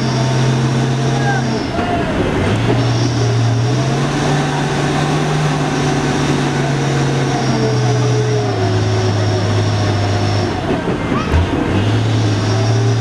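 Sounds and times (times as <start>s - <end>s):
truck diesel engine labouring: 0.0s - 13.0s.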